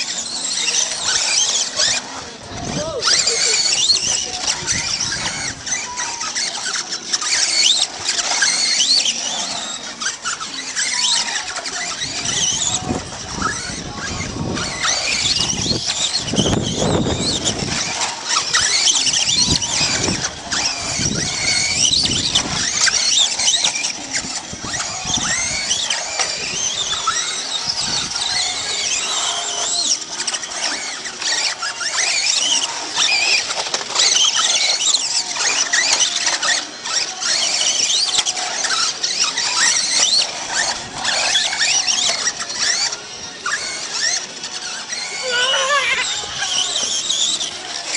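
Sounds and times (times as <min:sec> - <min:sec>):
rc car motors whining: 0:00.0 - 0:47.9.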